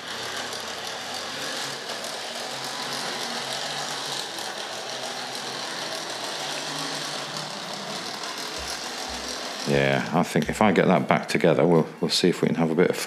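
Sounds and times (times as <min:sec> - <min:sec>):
model train motor whirring: 0:00.0 - 0:10.6
wheels rattling on rails: 0:00.0 - 0:10.6.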